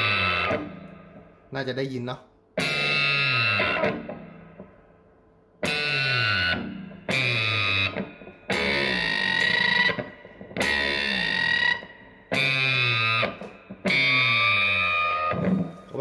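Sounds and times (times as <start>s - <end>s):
fuzzy electric guitar bends: 0.0s - 1.5s, 2.6s - 5.0s, 5.6s - 16.0s.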